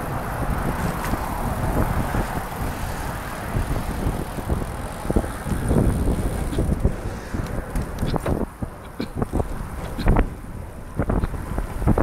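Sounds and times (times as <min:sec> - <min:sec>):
tyres on wet pavement: 0:00.0 - 0:12.0
wind buffeting microphone: 0:00.0 - 0:12.0.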